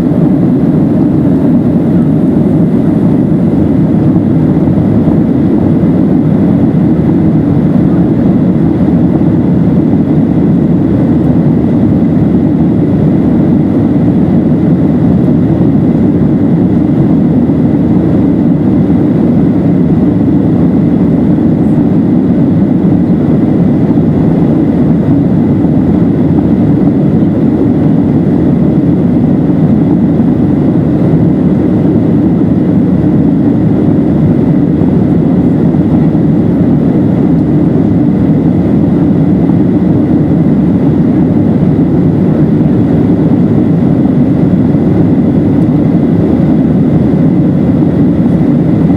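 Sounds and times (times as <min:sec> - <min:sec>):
aircraft engines roaring: 0:00.0 - 0:48.9
faint high whine: 0:00.0 - 0:48.9.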